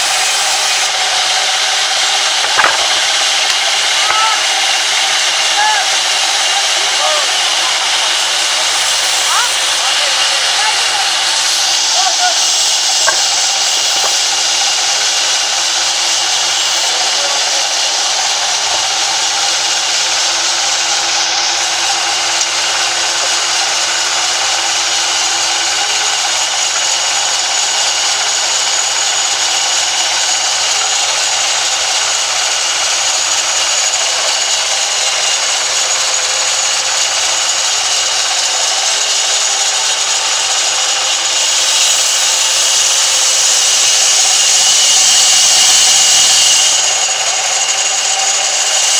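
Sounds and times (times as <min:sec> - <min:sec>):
band saw cutting log: 0:00.0 - 0:48.9.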